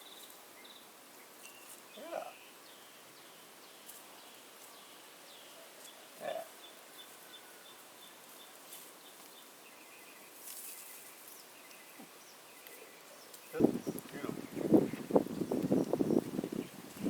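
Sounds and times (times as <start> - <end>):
bird chirping: 0.0 - 16.8.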